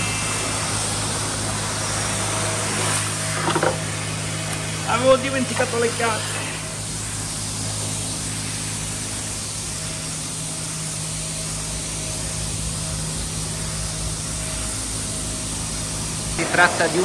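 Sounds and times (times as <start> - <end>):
low machine hum: 0.0 - 17.0
pressure washer spray hiss: 0.0 - 17.0.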